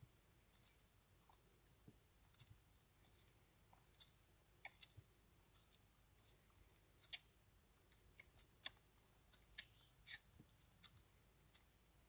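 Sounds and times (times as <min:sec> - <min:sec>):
cow chewing with wet clicks: 0:00.0 - 0:12.0.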